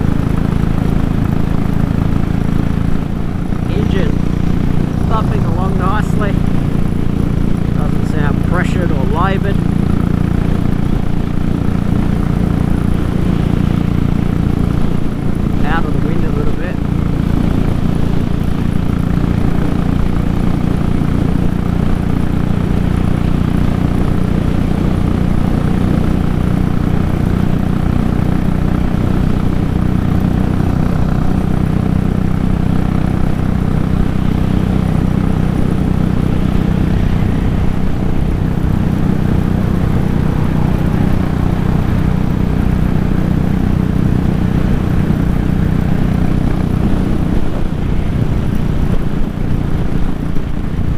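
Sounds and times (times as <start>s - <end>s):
motorcycle engine cruising: 0.0s - 50.9s
wind rush over microphone: 0.0s - 50.9s.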